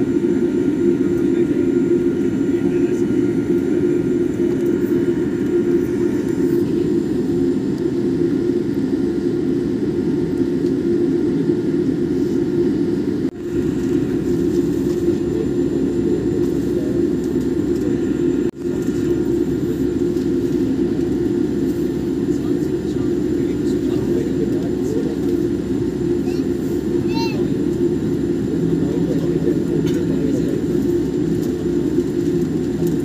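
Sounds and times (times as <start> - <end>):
jet engines rumbling in cabin: 0.0 - 33.0.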